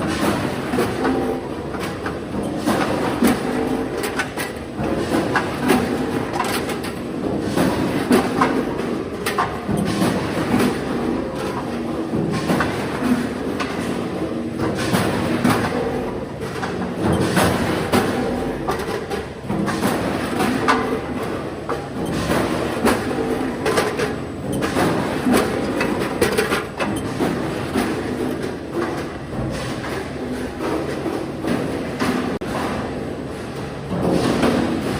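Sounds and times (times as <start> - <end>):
packing machine clattering: 0.0 - 34.9.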